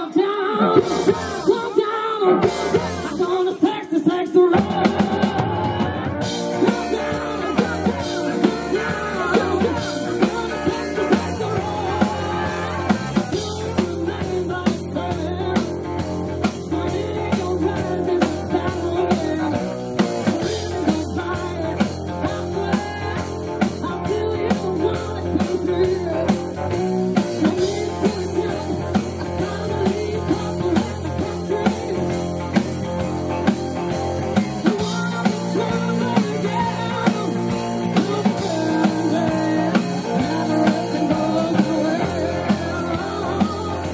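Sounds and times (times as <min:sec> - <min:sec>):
person singing: 0:00.0 - 0:32.8, 0:34.6 - 0:43.9
guitar and bass: 0:00.0 - 0:43.9
steady drum beat: 0:00.8 - 0:01.8, 0:02.4 - 0:43.9.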